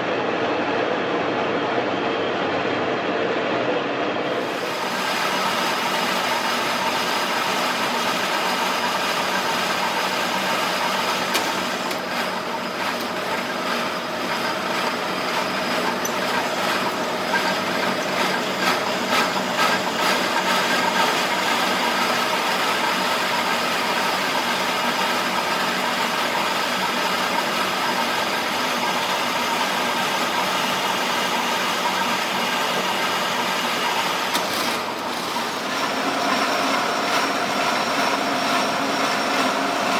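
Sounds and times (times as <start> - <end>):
lathe machine drone: 4.2 - 39.9.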